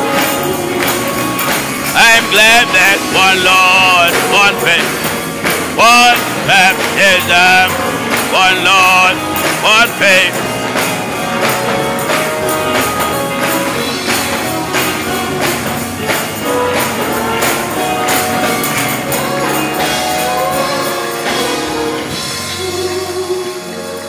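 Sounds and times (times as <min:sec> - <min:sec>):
hand clapping on a beat: 0:00.0 - 0:22.1
instrumental gospel music: 0:00.0 - 0:24.0.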